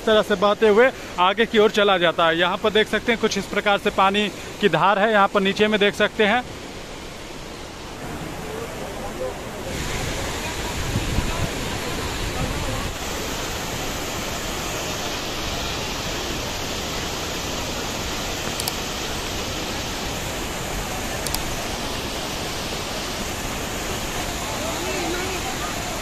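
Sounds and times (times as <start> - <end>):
stream and waterfall rushing: 0.0 - 26.0.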